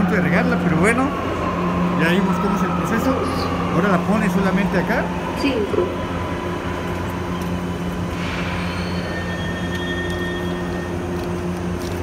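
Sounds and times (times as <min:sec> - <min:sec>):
station mechanical hum: 0:00.0 - 0:12.0.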